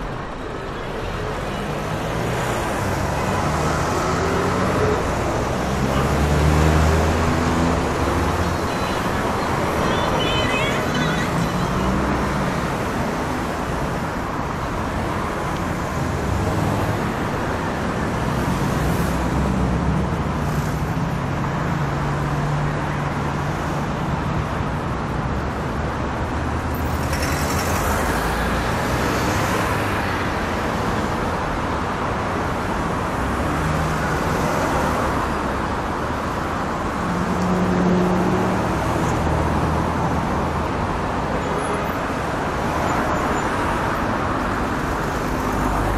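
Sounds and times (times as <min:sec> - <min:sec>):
heavy street traffic: 0:00.0 - 0:45.9.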